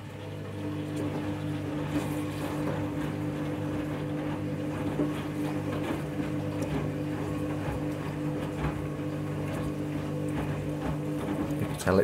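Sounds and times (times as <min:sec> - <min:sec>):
washing machine drum knocking: 0:00.0 - 0:12.0
washing machine motor humming: 0:00.0 - 0:12.0.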